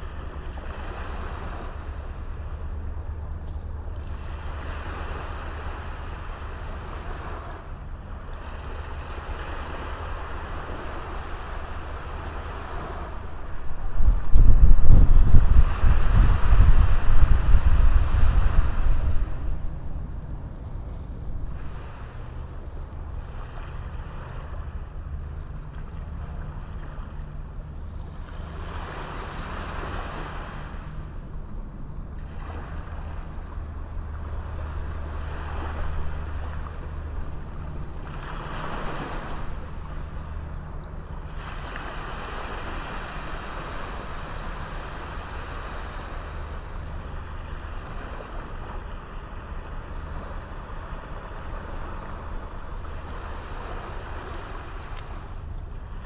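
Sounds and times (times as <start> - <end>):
small waves breaking on beach: 0.0 - 2.7, 3.5 - 31.4, 32.2 - 56.0
steady low rumble: 0.0 - 56.0.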